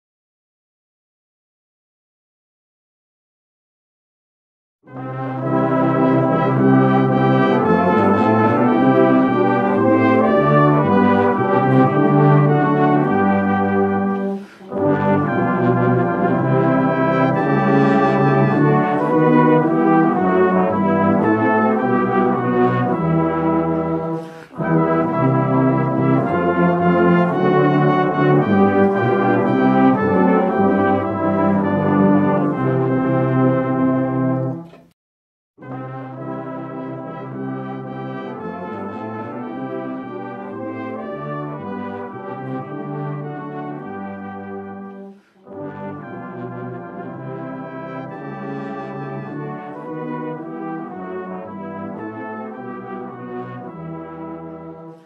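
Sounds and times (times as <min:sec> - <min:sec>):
brass band playing: 0:04.9 - 0:34.9, 0:35.6 - 0:55.0.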